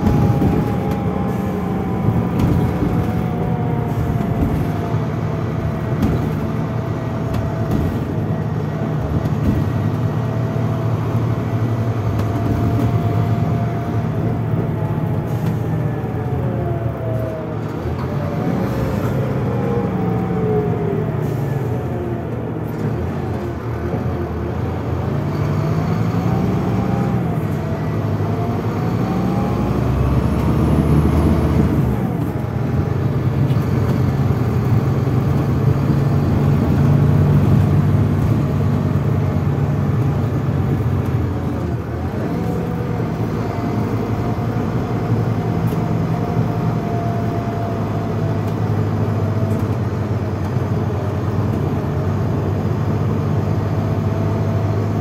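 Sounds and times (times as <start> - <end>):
diesel coach engine running: 0.0 - 55.0.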